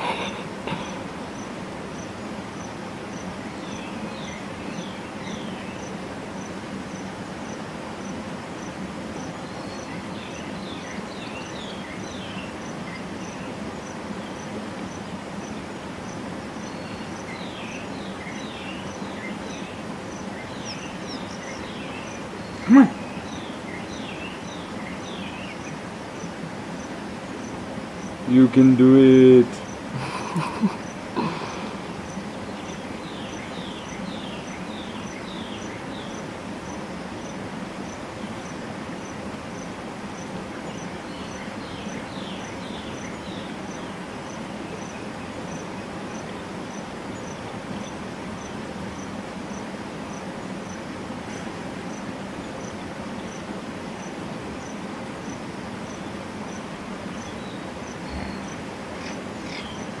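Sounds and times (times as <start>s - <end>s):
background hiss: 0.0s - 60.0s
insect chirping: 0.0s - 60.0s.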